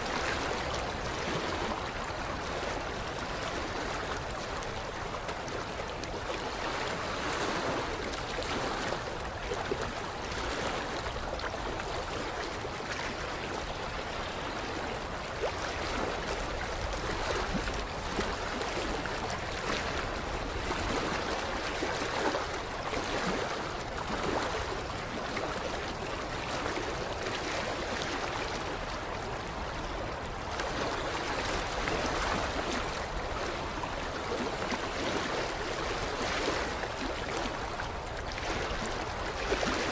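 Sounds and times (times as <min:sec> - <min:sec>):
creek water lapping on shore: 0:00.0 - 0:39.9
small water splashes and trickles: 0:00.0 - 0:39.9.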